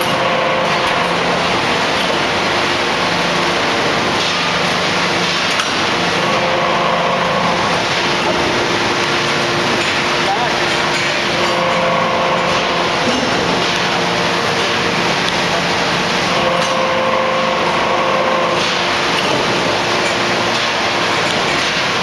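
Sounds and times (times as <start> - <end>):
forging press machine noise: 0.0 - 22.0
hydraulic hum: 0.0 - 22.0.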